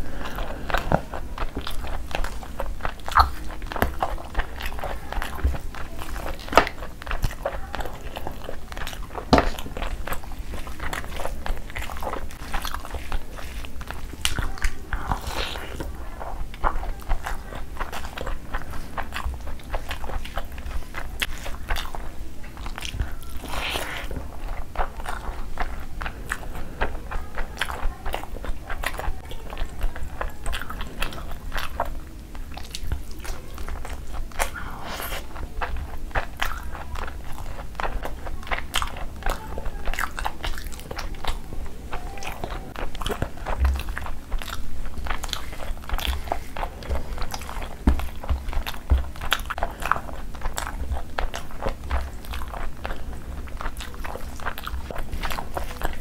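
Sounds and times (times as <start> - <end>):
close chewing and mouth sounds: 0.0 - 56.0.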